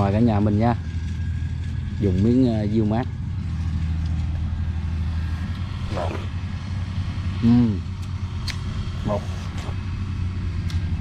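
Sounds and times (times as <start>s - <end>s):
baler engine droning: 0.0s - 11.0s.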